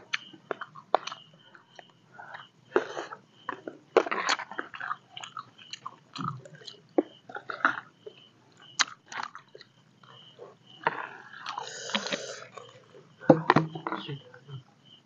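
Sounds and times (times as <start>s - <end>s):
people chewing: 0.0s - 14.3s.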